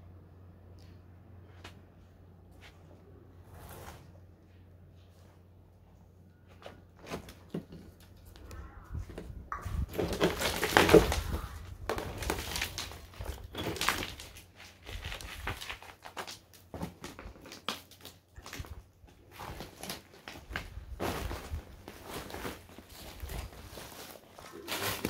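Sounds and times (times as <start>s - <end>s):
footsteps crunching over rubble: 4.4s - 25.0s.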